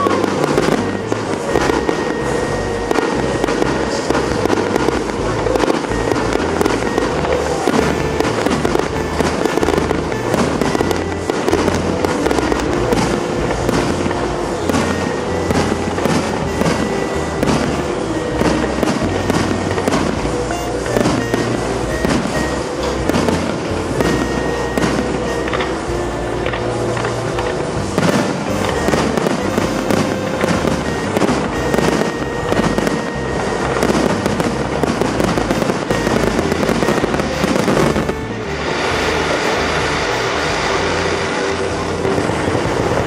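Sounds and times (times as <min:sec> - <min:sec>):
fireworks exploding: 0:00.0 - 0:43.0
music with steady bass line: 0:00.0 - 0:43.0.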